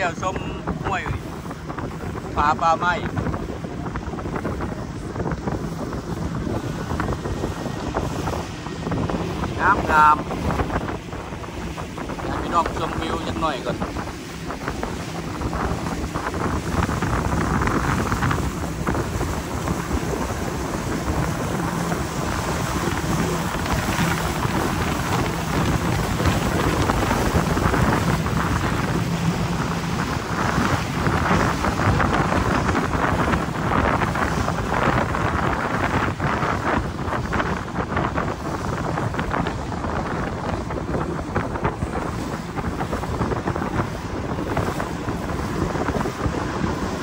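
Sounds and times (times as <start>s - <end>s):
outboard motor drone: 0.0s - 47.0s
water rushing past boat hull: 0.0s - 47.0s
wind buffeting microphone: 0.0s - 47.0s.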